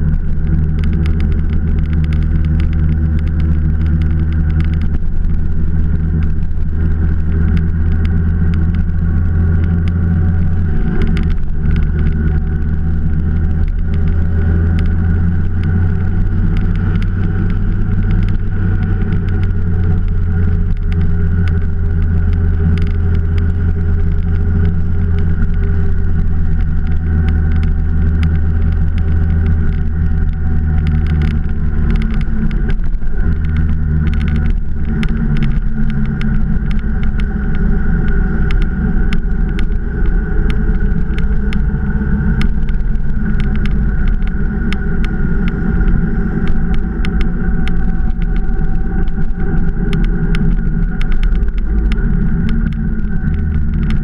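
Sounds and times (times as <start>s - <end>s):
motorcycle engine cruising: 0.0s - 54.0s
short crackles: 0.0s - 54.0s.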